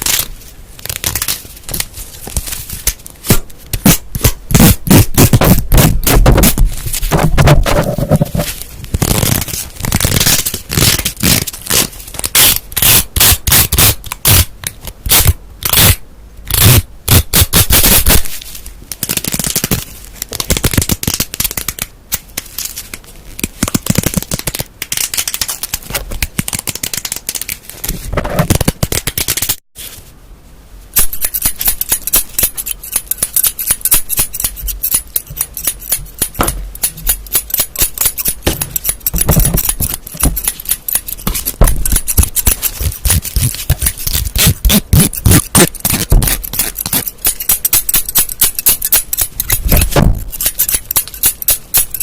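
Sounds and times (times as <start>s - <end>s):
crackling and scratching: 0.0s - 30.1s, 30.9s - 52.0s.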